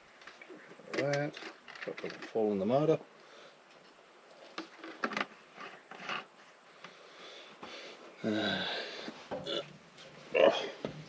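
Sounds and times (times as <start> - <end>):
quiet hiss: 0.0 - 11.0.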